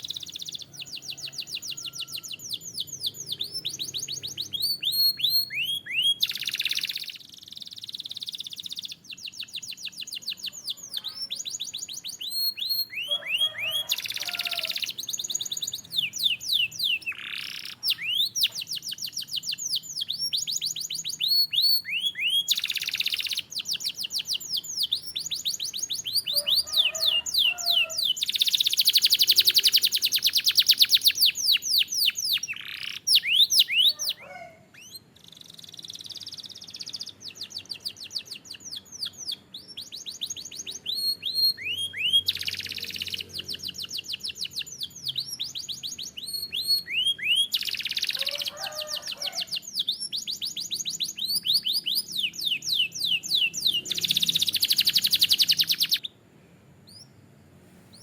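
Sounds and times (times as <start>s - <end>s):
canary singing trills: 0.0s - 56.2s.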